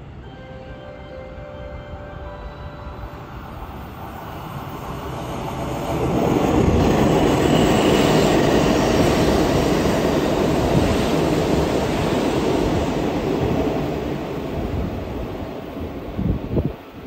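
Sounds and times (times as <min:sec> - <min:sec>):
train wheels rumbling on rails: 0:03.0 - 0:17.0.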